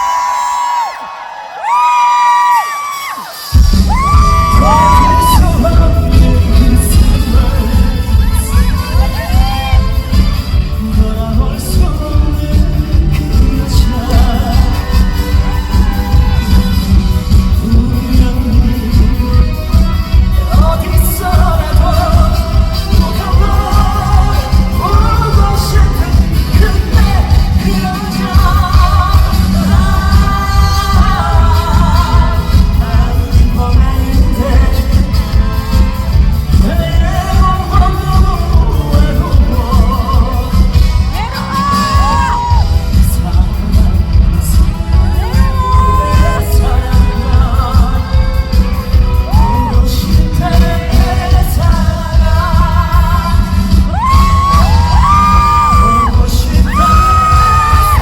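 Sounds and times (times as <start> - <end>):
loud band backing track: 0.0 - 58.0
person singing live: 0.0 - 58.0.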